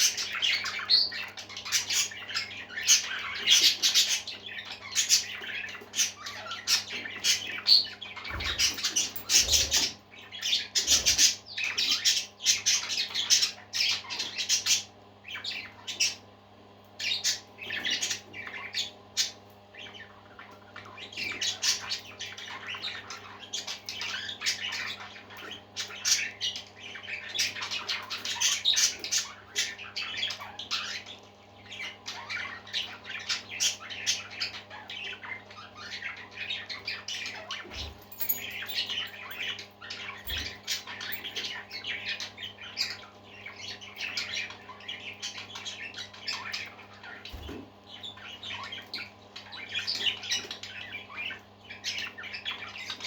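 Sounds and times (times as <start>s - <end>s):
parakeets chirping and squawking: 0.0s - 53.0s.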